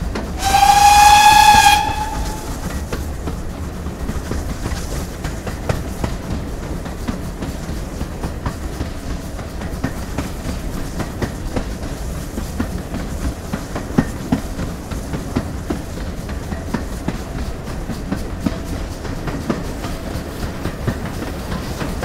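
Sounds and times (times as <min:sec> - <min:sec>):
steam locomotive rumble: 0:00.0 - 0:22.0.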